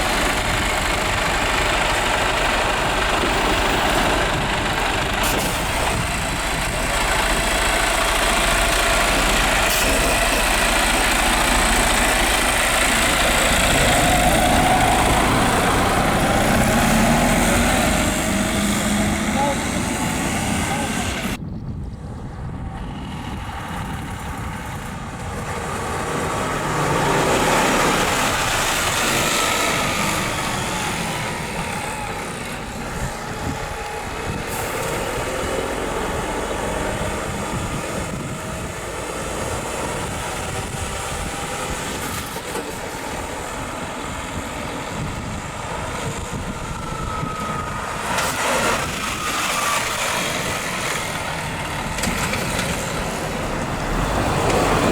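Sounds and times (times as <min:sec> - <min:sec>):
truck running: 0:00.0 - 0:54.9.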